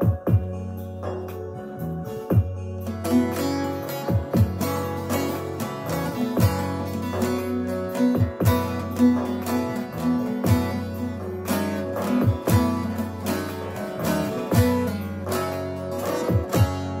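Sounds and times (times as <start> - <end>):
strummed lute folk melody: 0.0 - 17.0.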